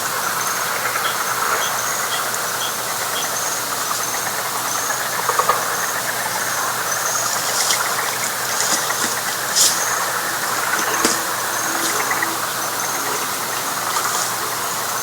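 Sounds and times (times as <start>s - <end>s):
frog chorus: 0.0s - 15.0s.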